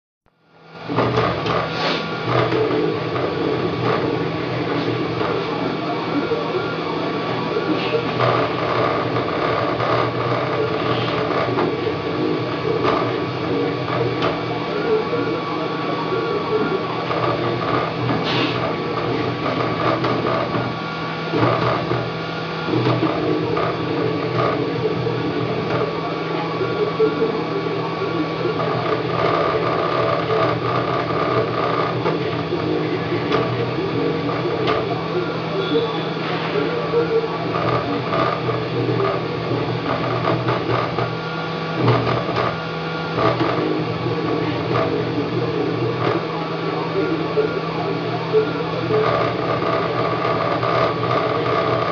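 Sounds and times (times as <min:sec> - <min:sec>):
steady low hum: 0:00.3 - 0:51.9
steady whine: 0:00.3 - 0:51.9
stepper motors whirring: 0:00.7 - 0:51.9.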